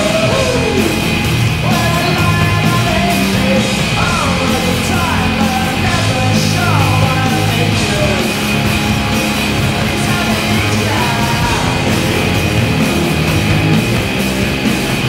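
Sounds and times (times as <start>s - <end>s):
hard rock music with shouted vocals: 0.0s - 15.0s.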